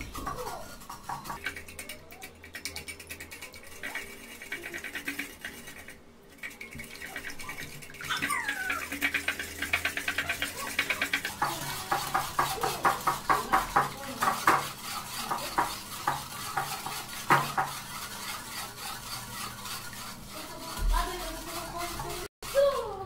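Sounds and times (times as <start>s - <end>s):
whisk clinking against glass bowl: 0.1s - 22.8s.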